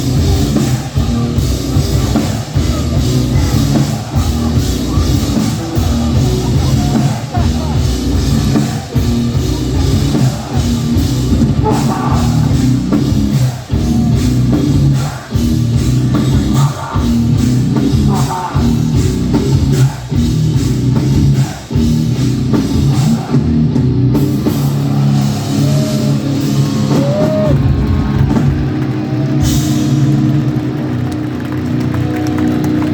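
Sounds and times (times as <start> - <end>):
hardcore band playing: 0.0 - 32.9.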